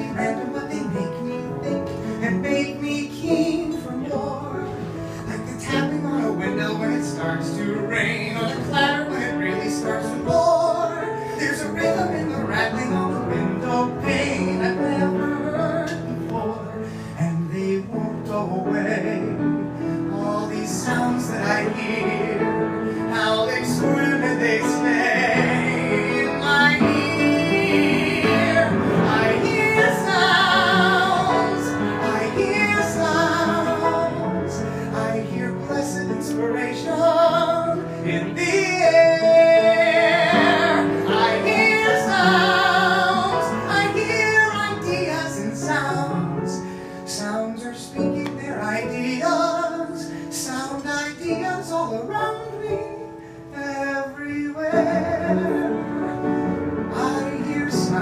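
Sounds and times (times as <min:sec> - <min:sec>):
man singing a show tune: 0:00.0 - 0:56.2, 0:56.9 - 0:58.0
piano accompaniment: 0:00.0 - 0:58.0.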